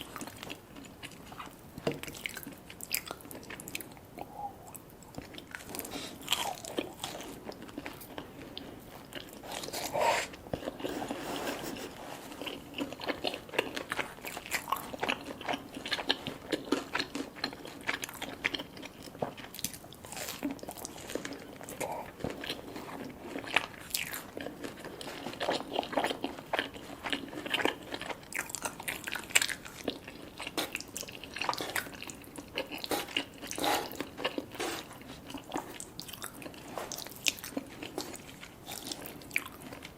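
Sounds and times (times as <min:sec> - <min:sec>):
person crunching and chewing: 0:00.0 - 0:39.9.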